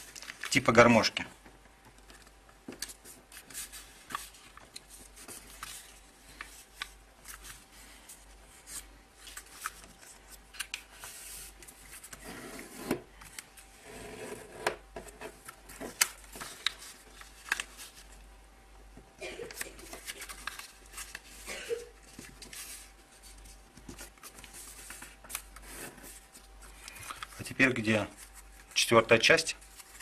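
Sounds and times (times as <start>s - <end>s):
paper rustling and crinkling: 0.0s - 1.0s, 2.0s - 13.7s, 15.1s - 18.2s, 19.4s - 30.0s.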